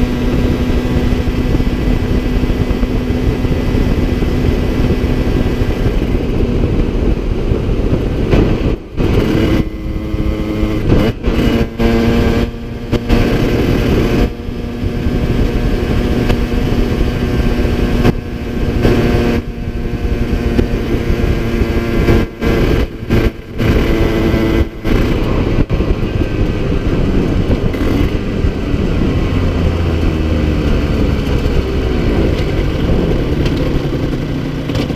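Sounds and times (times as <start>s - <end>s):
two-stroke motorcycle engine running: 0.0s - 34.9s.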